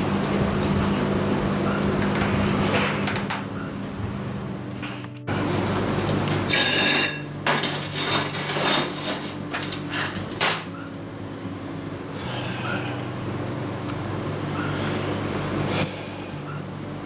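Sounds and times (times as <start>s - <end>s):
hum of running machinery: 0.0s - 17.0s.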